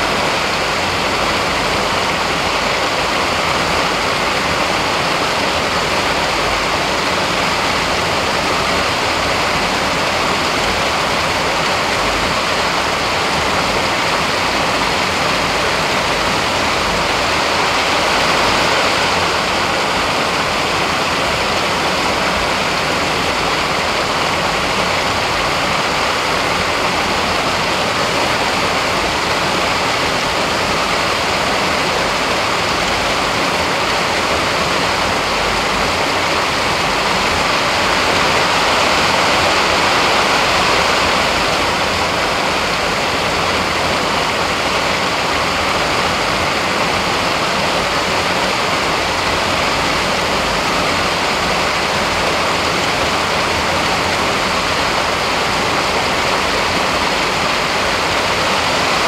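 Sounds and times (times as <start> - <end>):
rushing water roar: 0.0 - 59.0.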